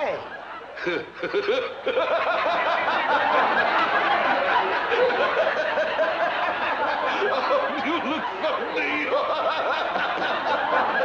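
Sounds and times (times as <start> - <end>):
audience laughter: 0.0 - 11.0.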